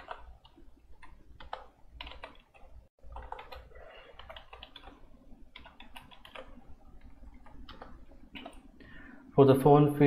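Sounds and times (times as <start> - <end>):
computer keyboard typing: 0.0 - 8.7.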